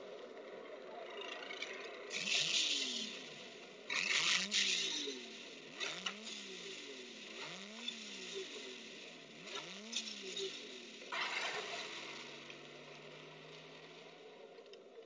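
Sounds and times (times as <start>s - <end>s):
racing car engine revving: 2.0s - 14.7s.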